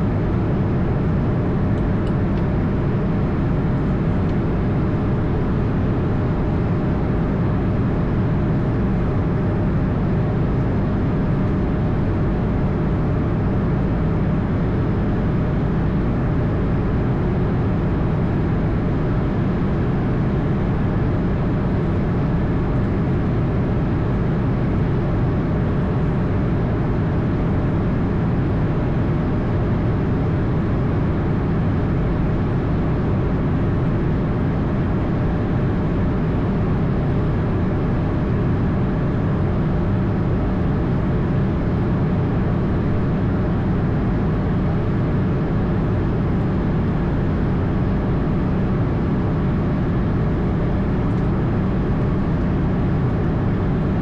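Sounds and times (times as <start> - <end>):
faint engine whine: 0.0 - 54.0
jet engines droning in cabin: 0.0 - 54.0.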